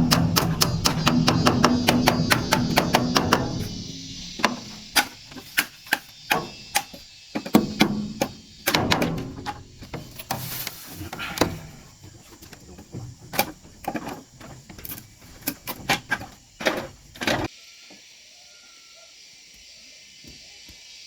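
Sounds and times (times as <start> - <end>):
knocks clatter and scraping: 0.0 - 17.5.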